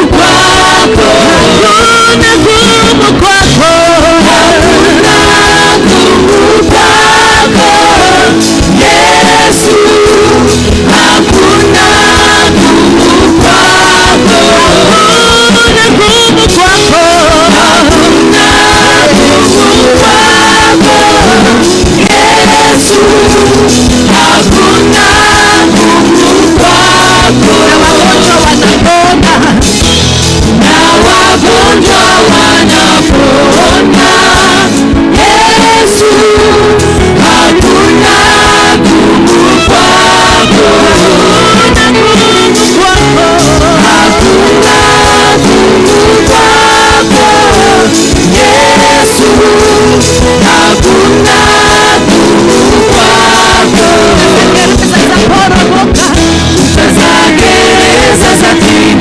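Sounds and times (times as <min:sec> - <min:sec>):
instrumental backing with beat: 0:00.0 - 0:59.0
person singing gospel: 0:00.0 - 0:59.0.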